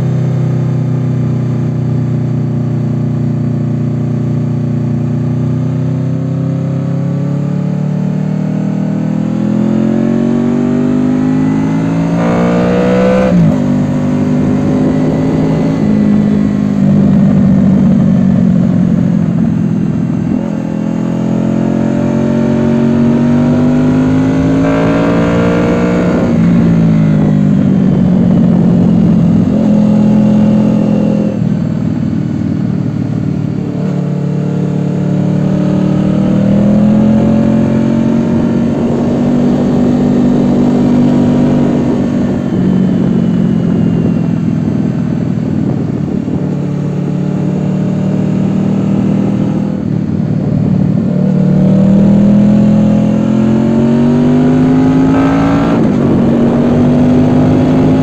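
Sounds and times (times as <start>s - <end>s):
motorcycle engine pulling under throttle: 0.0s - 58.0s.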